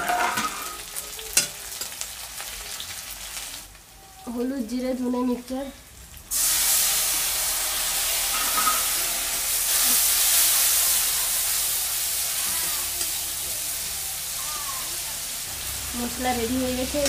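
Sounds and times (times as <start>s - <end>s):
spices sizzling in a metal pan: 0.0s - 17.0s.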